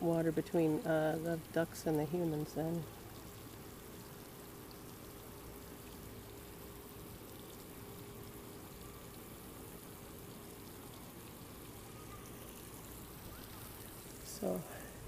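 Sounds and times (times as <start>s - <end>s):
faint steady hum: 0.0s - 15.0s
small waterfall running: 0.0s - 15.0s.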